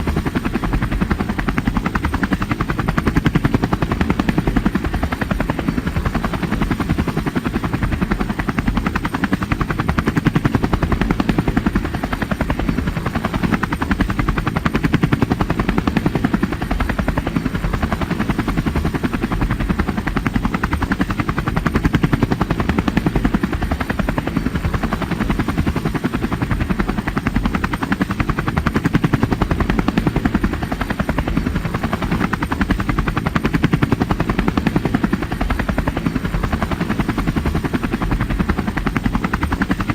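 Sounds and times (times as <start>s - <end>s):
helicopter rotor blades chopping: 0.0s - 39.9s.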